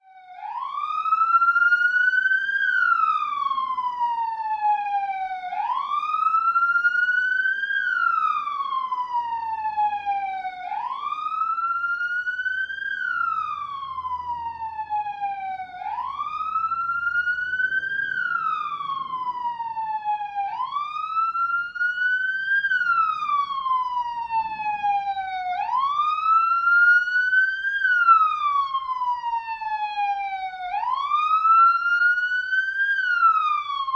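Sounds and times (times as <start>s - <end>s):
police siren wailing: 0.0s - 33.9s.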